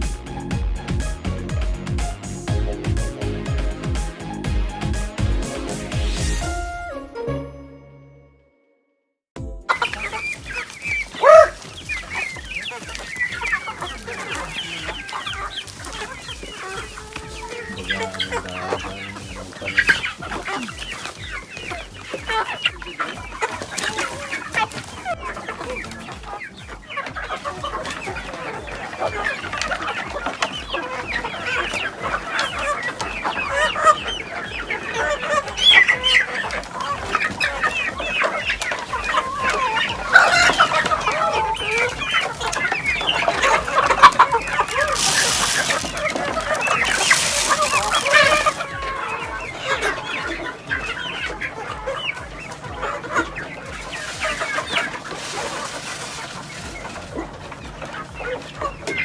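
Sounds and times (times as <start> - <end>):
chickens clucking: 0.0 - 6.5, 9.6 - 59.0.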